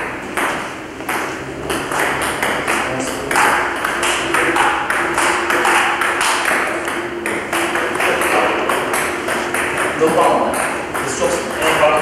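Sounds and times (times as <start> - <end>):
ball bouncing on table: 0.0 - 12.0
table tennis ball hitting bats: 0.0 - 12.0.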